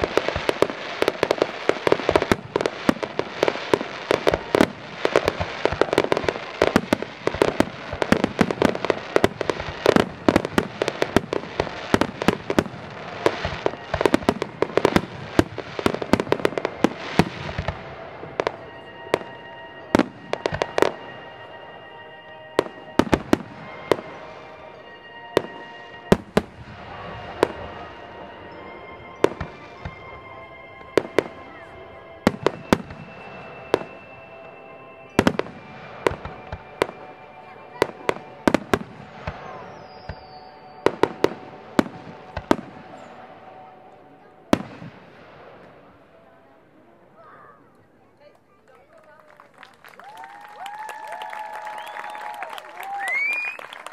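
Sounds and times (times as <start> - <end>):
fireworks bursting: 0.0 - 46.3, 49.0 - 53.9.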